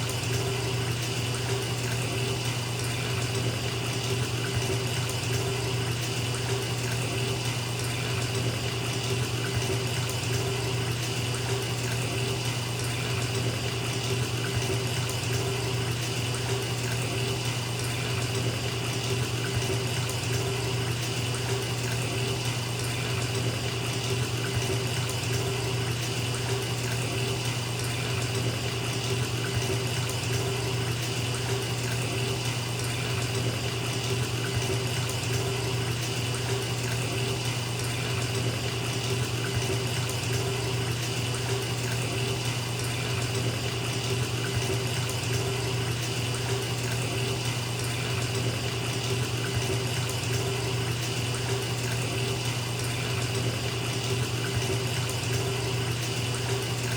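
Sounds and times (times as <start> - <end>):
tap water running into bathtub: 0.0 - 56.9.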